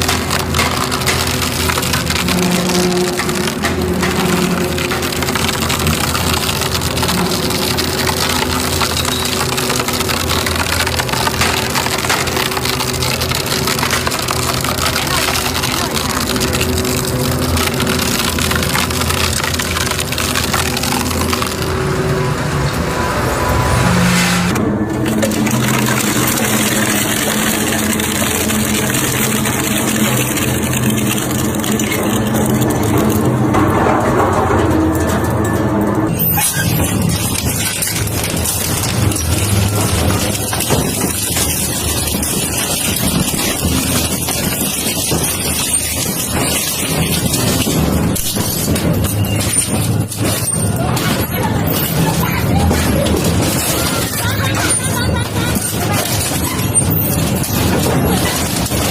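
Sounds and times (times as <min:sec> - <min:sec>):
crackle of material being crushed: 0:00.0 - 0:22.4, 0:24.5 - 0:58.9
crusher engine droning: 0:00.0 - 0:58.9
dense grinding noise: 0:00.0 - 0:58.9.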